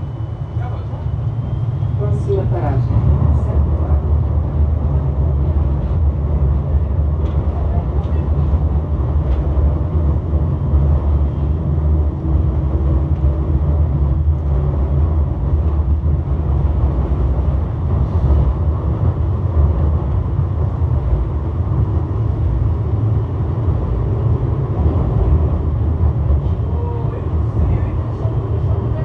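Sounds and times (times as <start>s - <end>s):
tram wheels rumbling: 0.0s - 29.0s.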